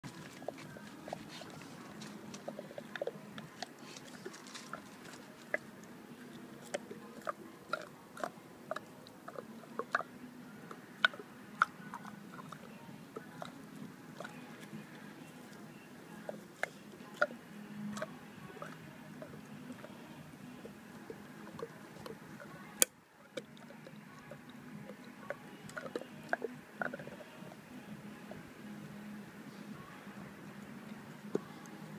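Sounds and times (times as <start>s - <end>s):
dog chewing with cracks and crunches: 0.0s - 10.1s, 10.7s - 28.4s.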